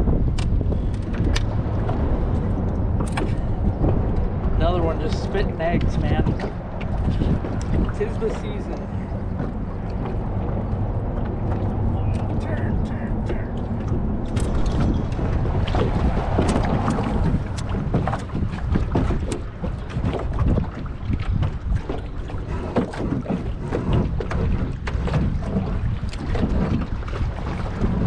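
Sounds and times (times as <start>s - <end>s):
water slapping boat hull: 0.0s - 28.0s
wind buffeting microphone: 0.0s - 28.0s.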